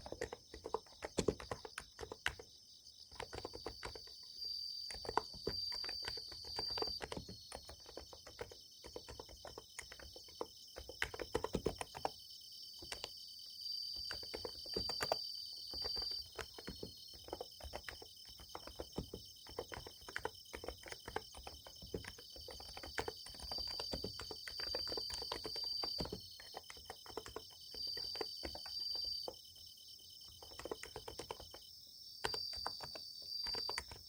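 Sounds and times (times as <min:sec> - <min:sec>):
keyboard typing: 0:00.0 - 0:12.2, 0:12.8 - 0:13.2, 0:13.9 - 0:29.6, 0:30.2 - 0:34.0
insects chorus: 0:00.0 - 0:34.0.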